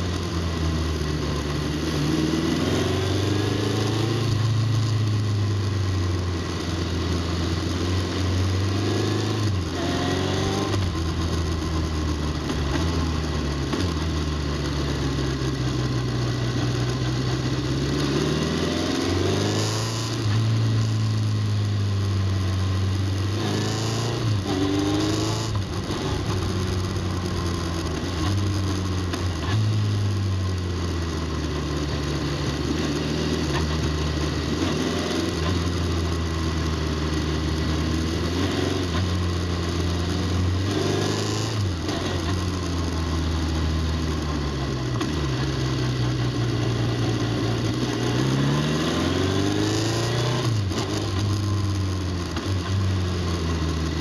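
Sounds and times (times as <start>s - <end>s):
motorcycle engine accelerating: 0.0s - 54.0s
road noise: 0.0s - 54.0s.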